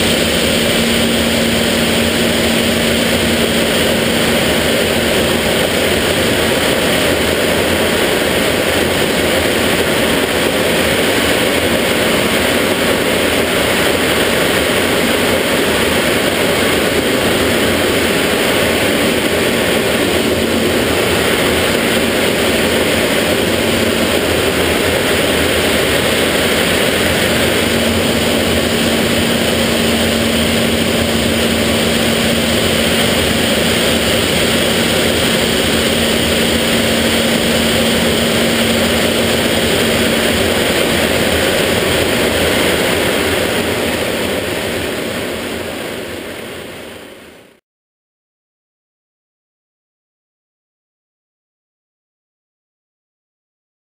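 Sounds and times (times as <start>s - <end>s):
faint hum: 0.0s - 47.3s
jet engine and airflow rush: 0.0s - 47.6s.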